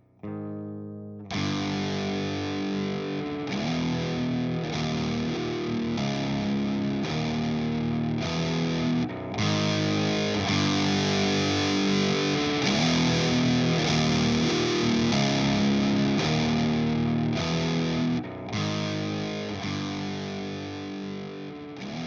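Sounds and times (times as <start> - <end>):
fuzzed electric guitar riff: 0.0 - 22.0.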